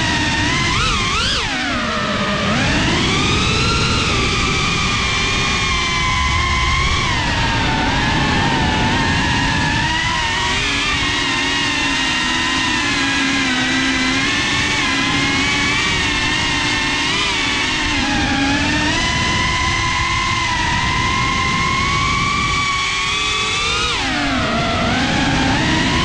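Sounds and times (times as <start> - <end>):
drone motor and propeller whine: 0.0 - 26.0.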